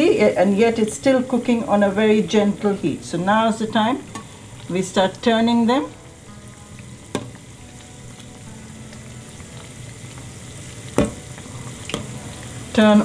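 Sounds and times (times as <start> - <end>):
food sizzling in frying oil: 0.0 - 13.0.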